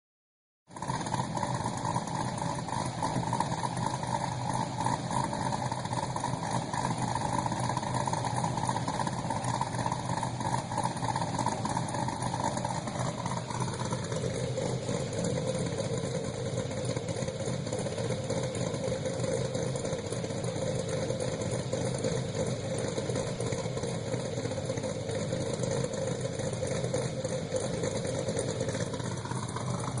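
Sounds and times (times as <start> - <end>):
car engine idling rough: 0.7 - 30.0.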